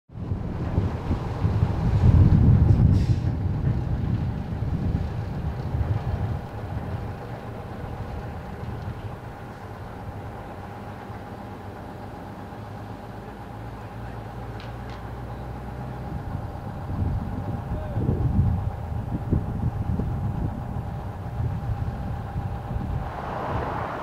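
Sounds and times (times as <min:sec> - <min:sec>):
wind rumbling on microphone: 0:00.1 - 0:11.7, 0:15.7 - 0:24.0
truck engine idling: 0:00.2 - 0:24.0.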